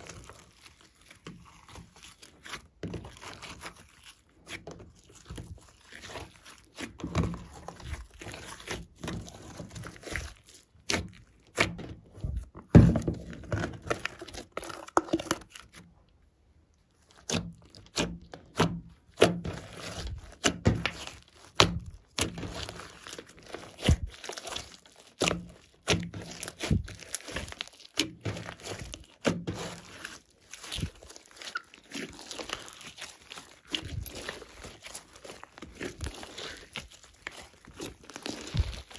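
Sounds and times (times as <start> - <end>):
slime popping and crackling: 0.0 - 15.8, 17.0 - 38.9.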